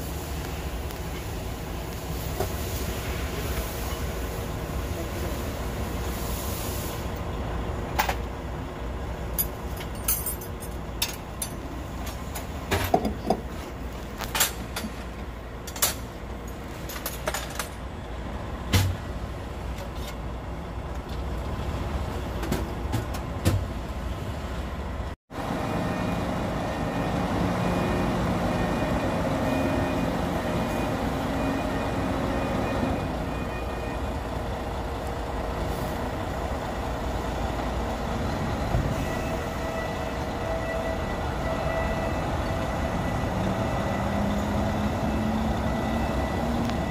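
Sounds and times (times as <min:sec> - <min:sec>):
diesel truck engine rumbling: 0:00.0 - 0:46.9
heavy trucks running: 0:00.0 - 0:46.9.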